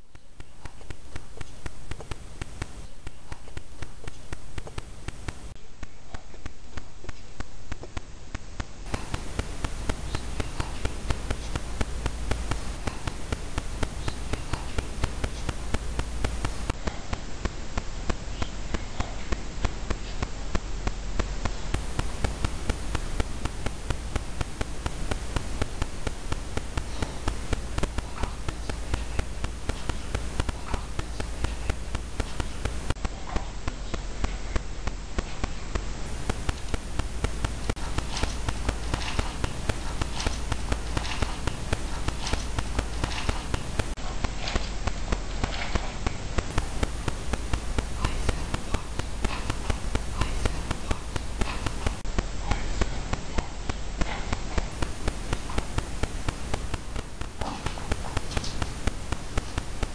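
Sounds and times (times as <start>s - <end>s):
loud recorder hiss: 0.0s - 59.9s
small clicks and taps: 0.0s - 59.9s.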